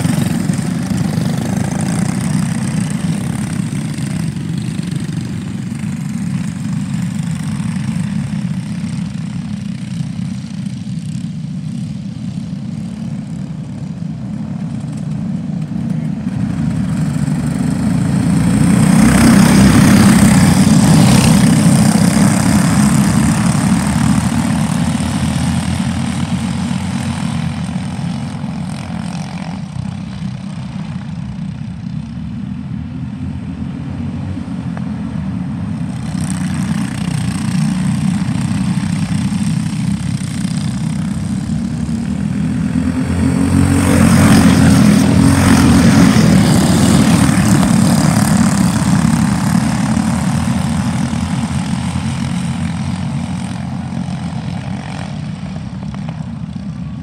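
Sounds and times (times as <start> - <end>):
kart engines droning: 0.0 - 57.0.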